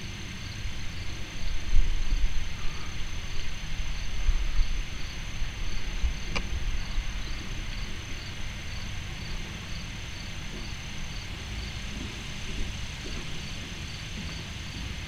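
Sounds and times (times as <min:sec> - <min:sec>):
insects chirping: 0:00.0 - 0:15.0
steady high whine: 0:00.0 - 0:15.0.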